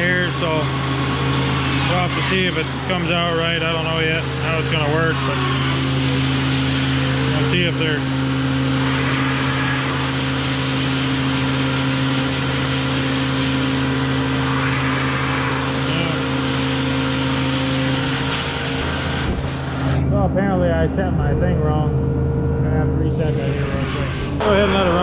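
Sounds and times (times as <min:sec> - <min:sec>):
cnc router cutting: 0:00.0 - 0:25.0.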